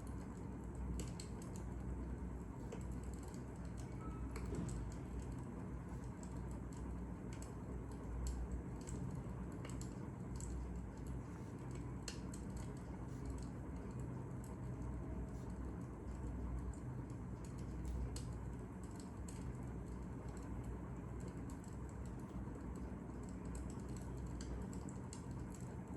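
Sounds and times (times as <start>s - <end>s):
wood fire crackling: 4.7s - 25.9s.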